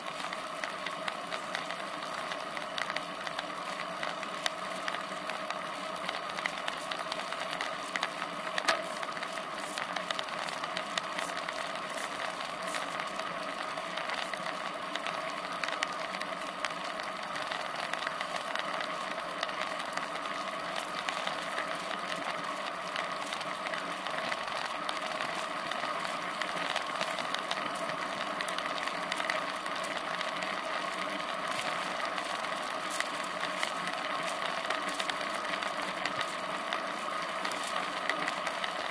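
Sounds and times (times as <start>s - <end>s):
bicycle rattles and clicks: 0.0s - 38.9s
bicycle tyre road noise: 0.0s - 38.9s.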